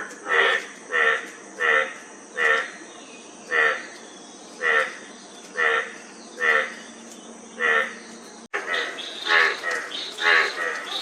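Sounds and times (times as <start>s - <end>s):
frog croaking: 0.0s - 2.8s, 3.5s - 4.0s, 4.6s - 6.8s, 7.6s - 11.0s
high insect trill: 0.0s - 11.0s.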